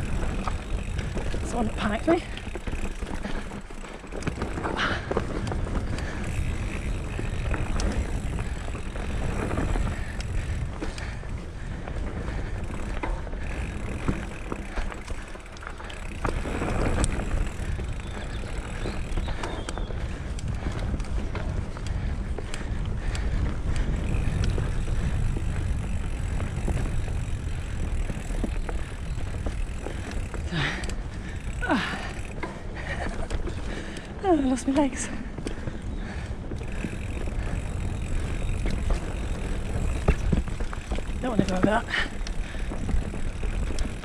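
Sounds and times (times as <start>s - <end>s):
bike clattering over bumps: 0.0s - 34.2s, 35.3s - 44.0s
tyres rumbling over dirt: 0.0s - 34.7s, 35.7s - 44.0s
wind buffeting microphone: 0.0s - 44.0s.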